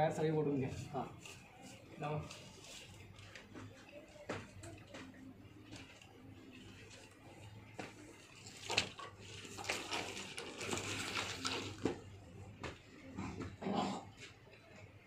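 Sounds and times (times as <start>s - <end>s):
rustling of electrical wires: 0.0s - 15.0s.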